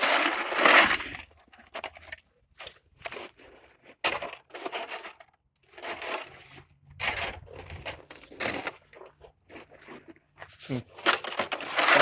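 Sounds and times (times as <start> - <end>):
crunching of packed snow: 0.0 - 12.0.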